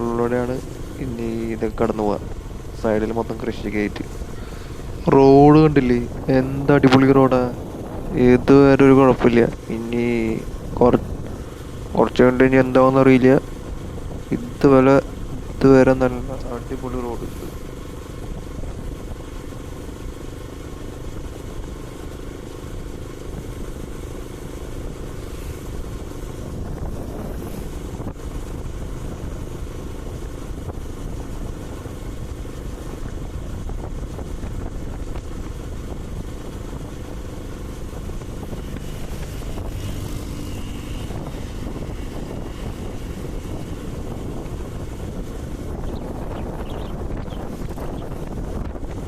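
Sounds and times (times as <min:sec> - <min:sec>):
wind on microphone: 0:00.0 - 0:19.8, 0:24.6 - 0:49.0
motorcycle engine cruising: 0:00.0 - 0:49.0.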